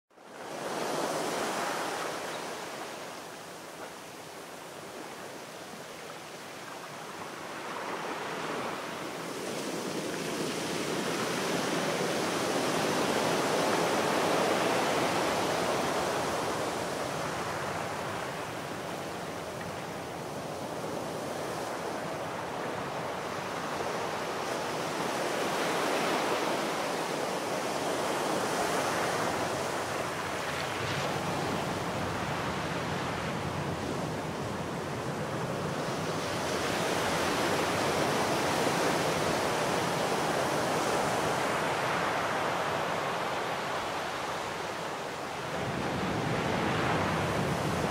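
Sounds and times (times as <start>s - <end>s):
waves breaking on shore: 0.2s - 47.9s.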